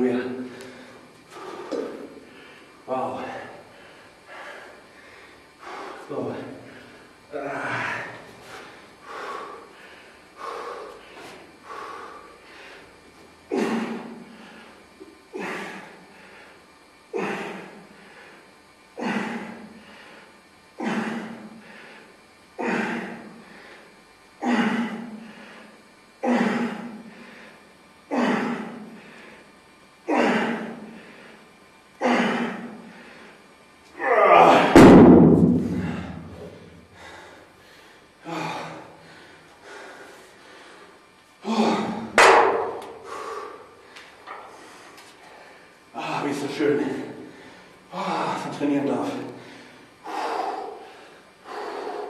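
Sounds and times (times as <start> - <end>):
man breathing hard and grunting: 0.0 - 35.0, 35.6 - 52.0.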